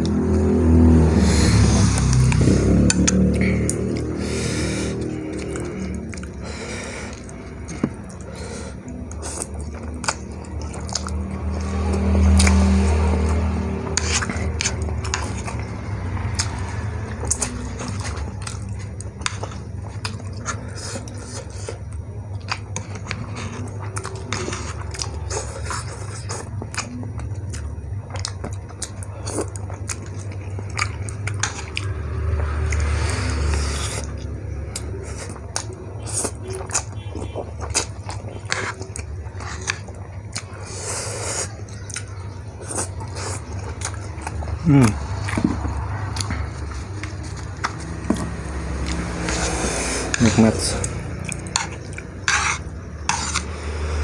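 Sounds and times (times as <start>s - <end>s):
chewing with wet mouth clicks: 0.0s - 0.5s, 1.9s - 53.6s
steady low hum: 0.0s - 54.0s.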